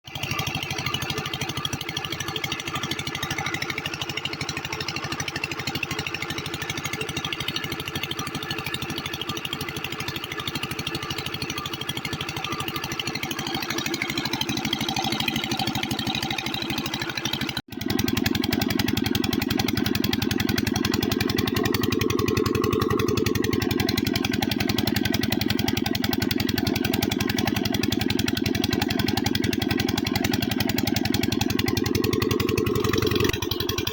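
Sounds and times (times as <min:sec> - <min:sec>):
diesel pump engine running: 0:00.1 - 0:33.9.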